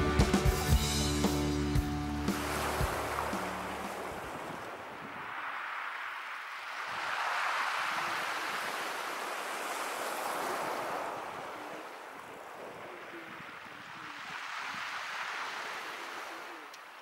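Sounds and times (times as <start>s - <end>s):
small waves washing onto shore: 2.1s - 17.0s.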